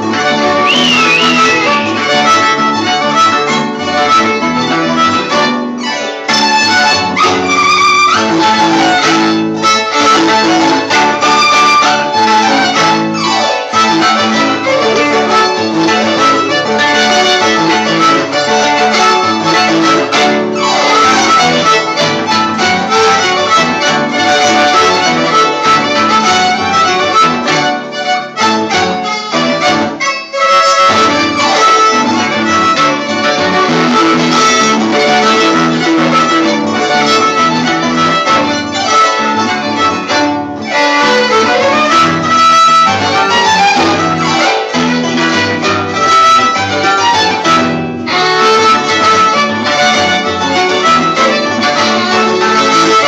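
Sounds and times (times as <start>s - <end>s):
bowed violin melody: 0.0s - 53.0s
plucked harp strings: 0.0s - 53.0s.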